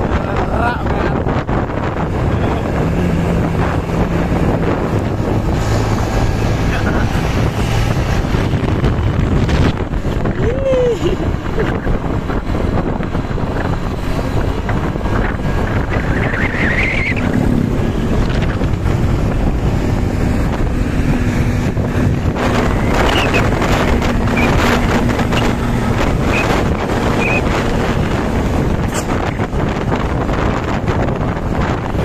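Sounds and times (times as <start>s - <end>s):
moving vehicle rumble: 0.0s - 32.0s
wind buffeting microphone: 0.0s - 32.0s.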